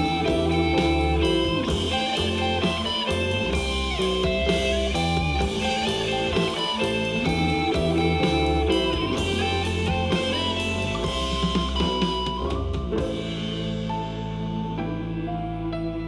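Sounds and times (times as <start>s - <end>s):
rock music through speakers: 0.0s - 16.0s.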